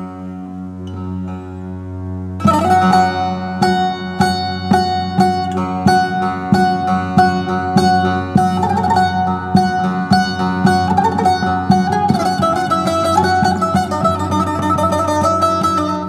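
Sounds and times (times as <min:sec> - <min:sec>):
long-necked lute picked: 0:00.0 - 0:16.0.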